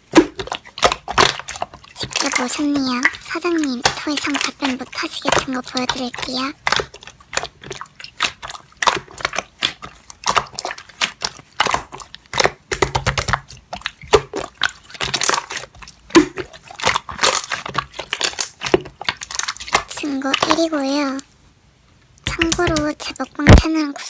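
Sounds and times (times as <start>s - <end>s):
slime squished by hand: 0.0s - 21.3s.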